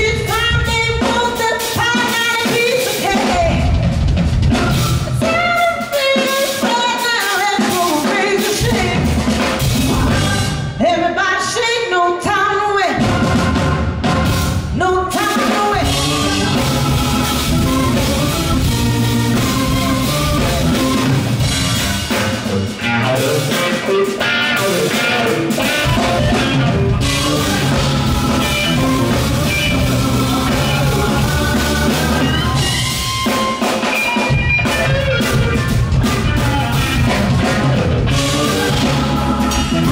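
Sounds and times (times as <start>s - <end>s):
live rock band playing: 0.0s - 11.8s, 12.7s - 39.9s.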